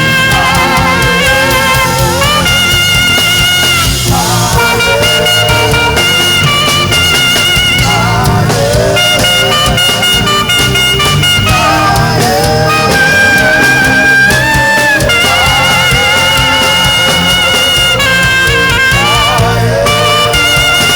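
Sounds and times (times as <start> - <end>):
band accompaniment with bass: 0.0 - 20.9
saxophone melody: 0.0 - 20.9.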